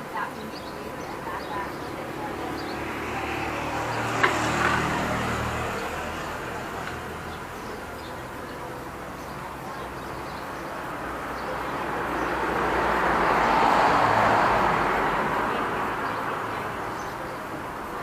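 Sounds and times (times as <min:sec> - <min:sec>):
vehicle passing by: 0:00.0 - 0:18.0.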